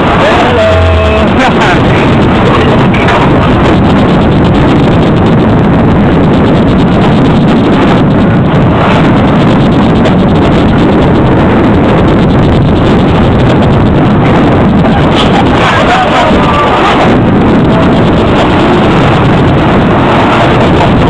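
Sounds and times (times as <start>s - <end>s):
train rumbling along track: 0.0s - 21.0s
wind buffeting microphone: 0.0s - 21.0s.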